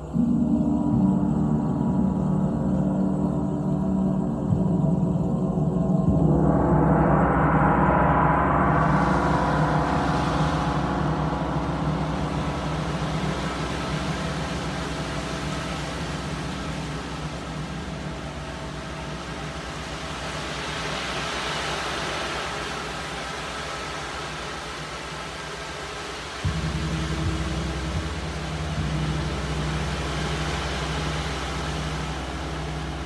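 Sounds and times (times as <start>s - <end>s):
large gongs ringing: 0.0s - 20.5s, 26.4s - 33.0s.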